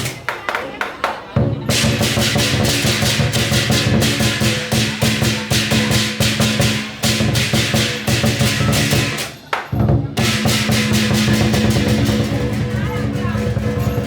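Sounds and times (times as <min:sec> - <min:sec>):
big drum beating: 0:00.0 - 0:14.0
cymbals clashing: 0:01.7 - 0:14.0.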